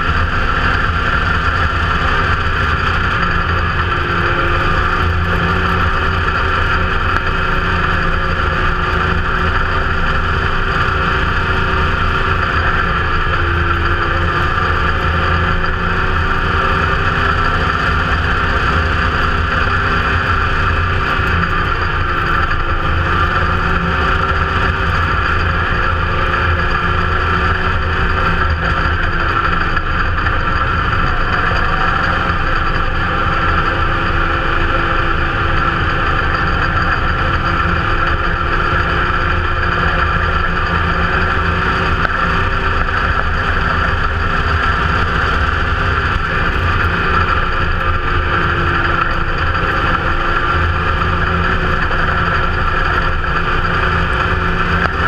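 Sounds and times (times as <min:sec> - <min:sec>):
race car engine running: 0:00.0 - 0:55.0.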